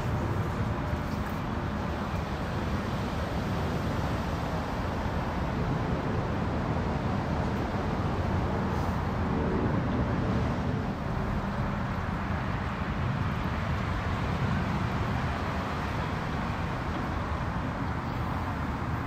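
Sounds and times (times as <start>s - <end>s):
boat engines rumbling: 0.0s - 19.0s.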